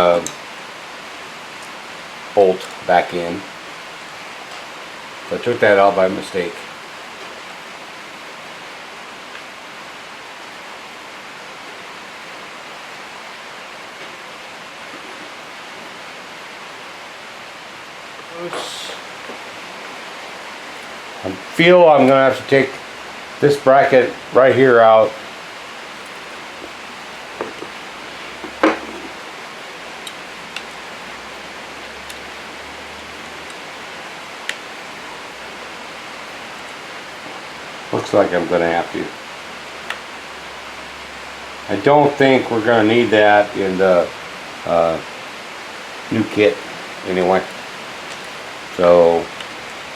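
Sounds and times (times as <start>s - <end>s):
steady background hiss: 0.0s - 49.9s.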